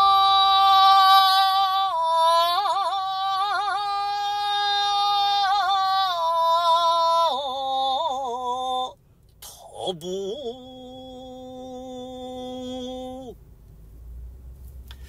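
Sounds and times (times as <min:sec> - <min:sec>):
man chanting poetry: 0:00.0 - 0:13.4.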